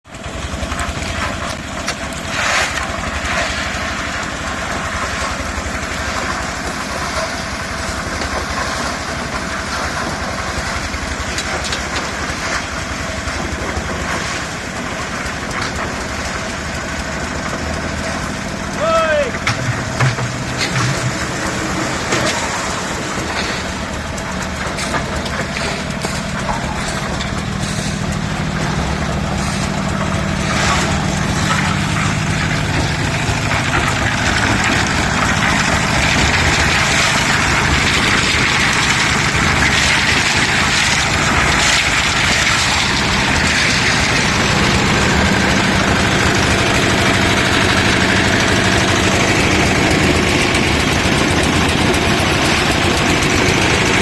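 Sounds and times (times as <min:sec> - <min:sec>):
machine engine running: 0:00.1 - 0:54.0.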